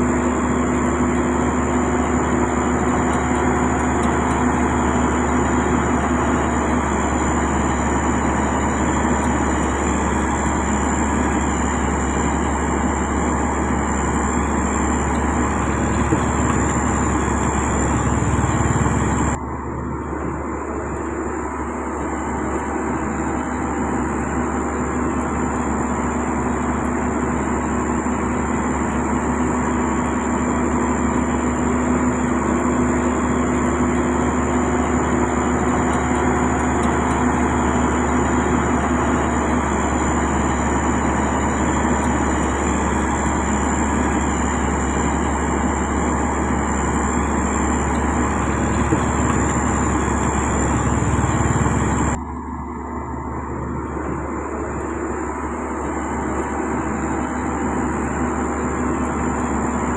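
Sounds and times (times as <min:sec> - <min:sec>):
diesel engine running: 0:00.0 - 0:59.9
high-pitched whine: 0:00.0 - 0:59.9.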